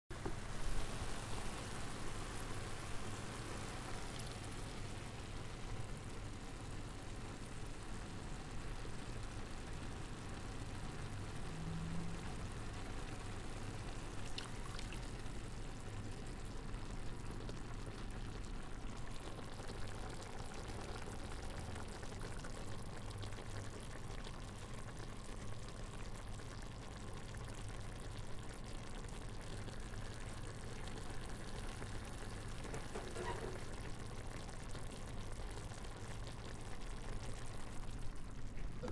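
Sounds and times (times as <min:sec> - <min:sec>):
onions sizzling in a pan: 0:00.2 - 0:22.7, 0:29.0 - 0:37.7.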